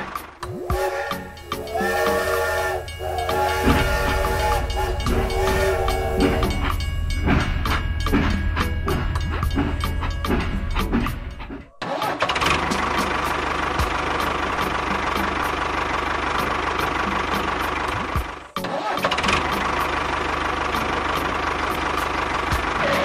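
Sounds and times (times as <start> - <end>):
tractor engine knocking: 0.0 - 23.0.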